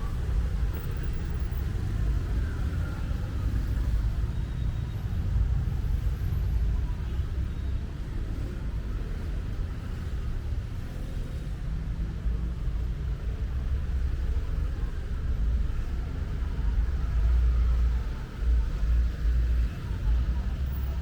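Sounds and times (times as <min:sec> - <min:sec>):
low rumble of road traffic: 0:00.0 - 0:21.0.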